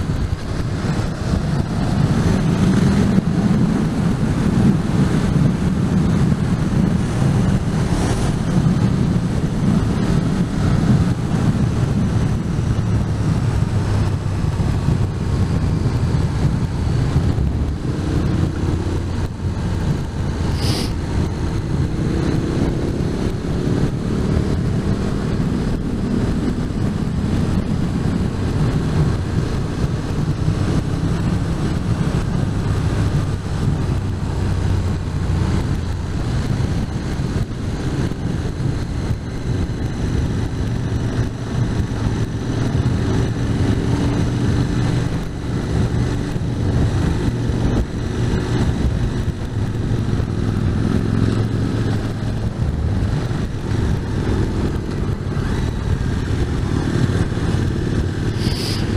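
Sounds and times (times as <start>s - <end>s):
motorcycle engine running: 0.0s - 58.9s
wind noise on microphone: 0.0s - 58.9s.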